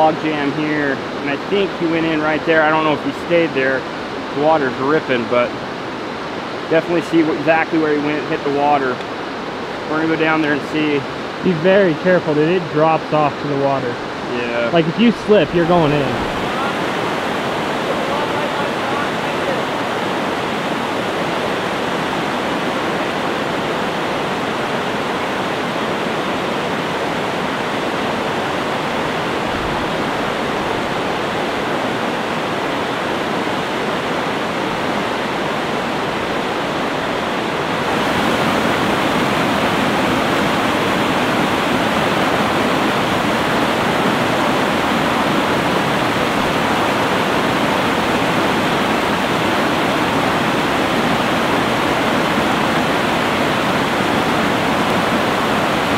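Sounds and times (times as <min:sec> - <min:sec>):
whitewater rushing: 0:00.0 - 0:55.9.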